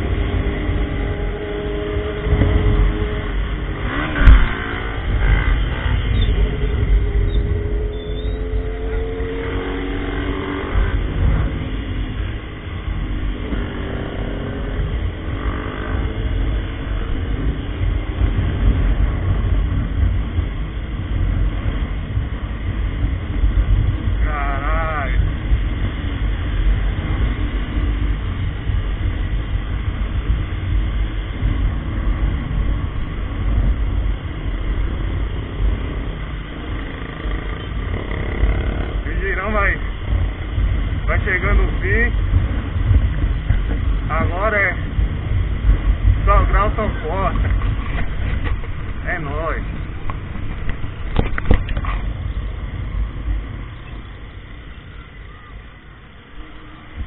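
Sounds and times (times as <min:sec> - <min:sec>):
small motorcycle engines: 0:00.0 - 0:57.0
wind rumble on microphone: 0:00.0 - 0:57.0.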